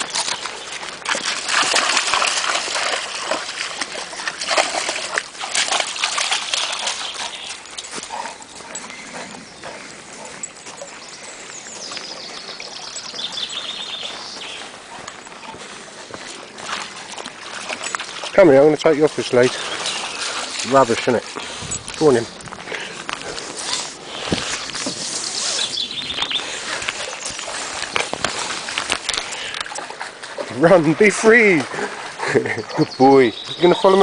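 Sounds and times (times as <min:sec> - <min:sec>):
splashing through shallow water: 0:00.0 - 0:34.0
stream trickling: 0:00.0 - 0:34.0.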